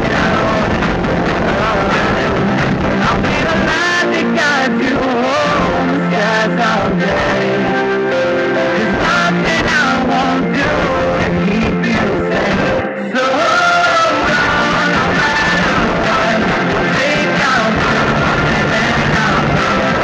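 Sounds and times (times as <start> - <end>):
rock song with guitar: 0.0 - 20.0.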